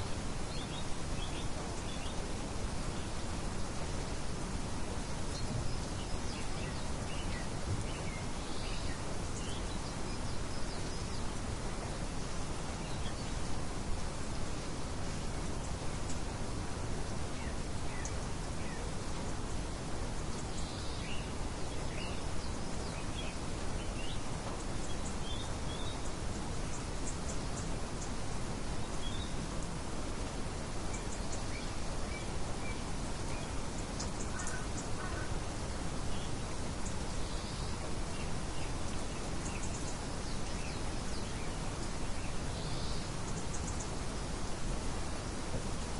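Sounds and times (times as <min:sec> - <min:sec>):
small birds chirping: 0:00.0 - 0:45.9
steady rustling hiss: 0:00.0 - 0:45.9.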